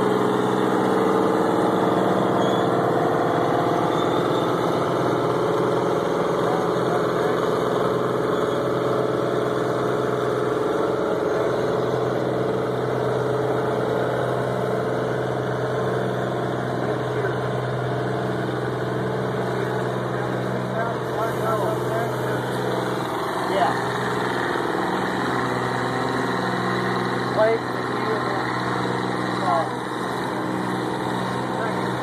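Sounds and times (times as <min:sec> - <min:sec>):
diesel tractor engine running: 0:00.0 - 0:32.0.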